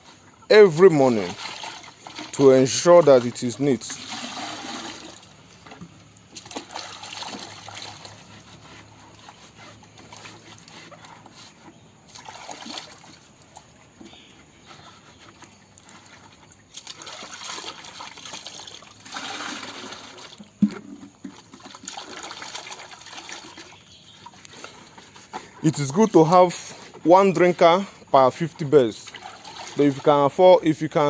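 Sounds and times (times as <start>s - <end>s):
water trickling and splashing: 0.0s - 31.0s.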